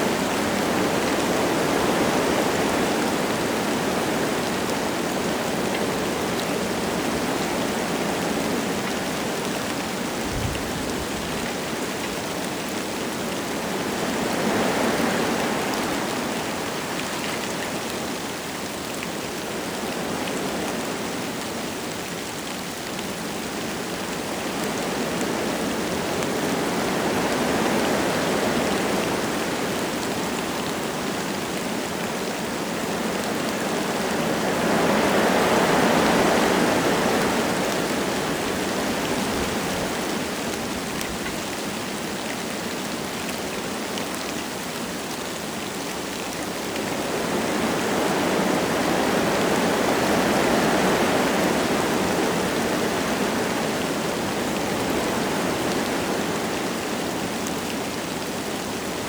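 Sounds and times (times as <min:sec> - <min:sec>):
light rain falling: 0:00.0 - 0:59.0
wind gusting through trees: 0:00.0 - 0:59.0.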